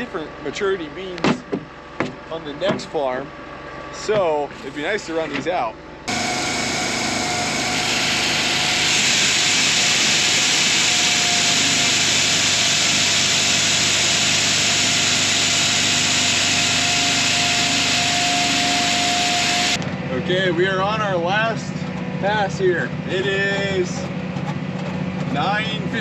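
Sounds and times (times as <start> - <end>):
conveyor drive whine: 0.0 - 26.0.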